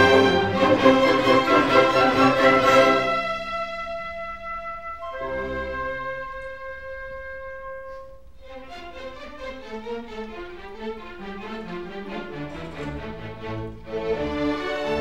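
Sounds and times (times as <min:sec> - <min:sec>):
orchestral strings and brass: 0:00.0 - 0:15.0.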